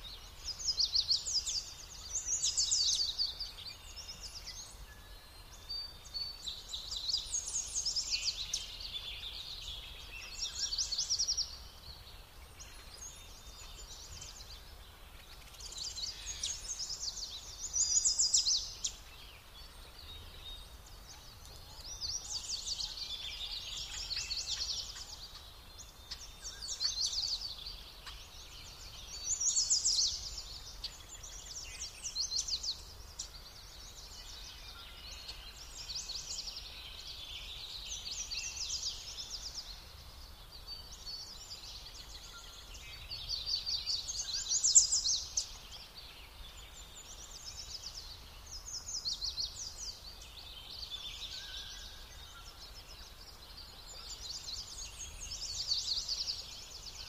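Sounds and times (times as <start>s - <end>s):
faint outdoor background: 0.0s - 57.0s.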